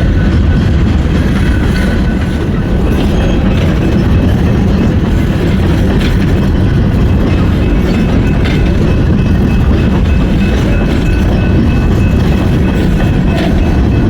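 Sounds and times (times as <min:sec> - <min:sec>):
freight train rumbling past: 0:00.0 - 0:14.0
wheels clacking over rail joints: 0:00.0 - 0:14.0.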